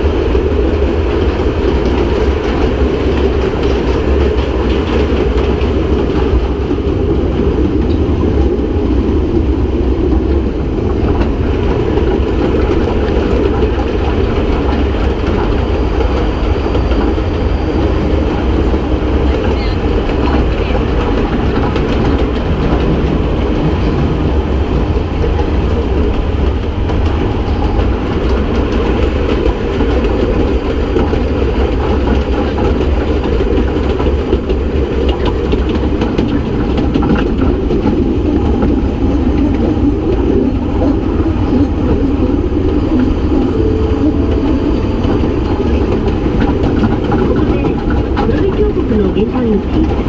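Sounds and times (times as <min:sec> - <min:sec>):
train wheel and rail rumble: 0:00.0 - 0:50.0.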